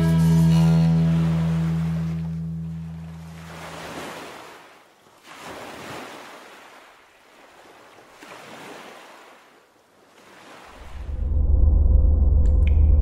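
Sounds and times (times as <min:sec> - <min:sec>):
waves washing in and out: 0:00.0 - 0:11.6.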